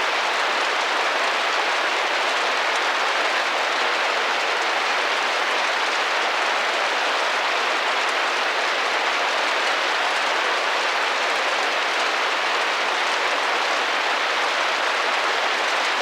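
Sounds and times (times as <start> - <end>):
rain on a window: 0.0 - 16.0.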